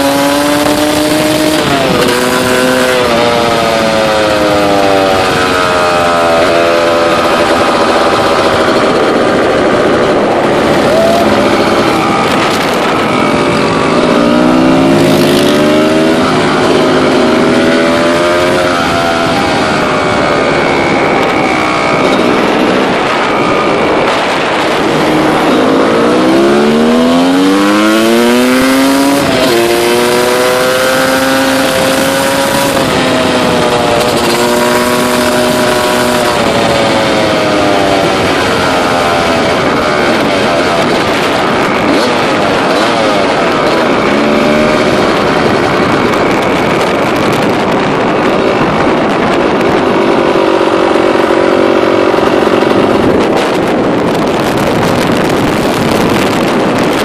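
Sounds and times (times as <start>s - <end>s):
two-stroke quad engine revving: 0.0s - 57.0s.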